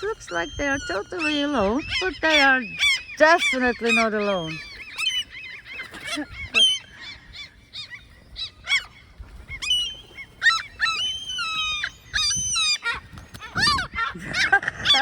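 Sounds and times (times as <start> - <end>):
gulls alarm calls: 0.0 - 15.0.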